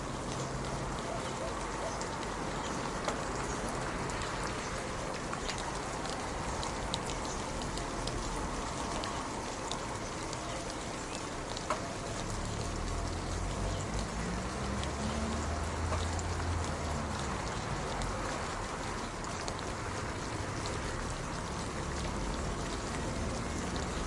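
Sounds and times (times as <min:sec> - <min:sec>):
raindrops ticking sharply: 0:00.0 - 0:24.0
steady rain: 0:00.0 - 0:24.0.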